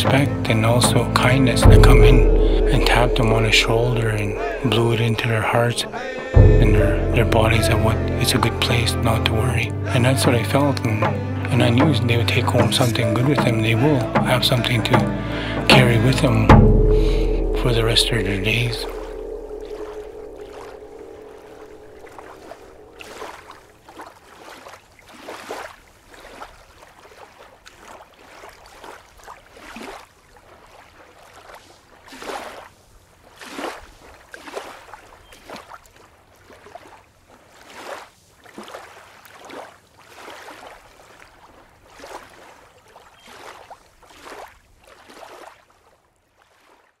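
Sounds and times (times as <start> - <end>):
water splashing and sloshing: 0.0 - 47.0.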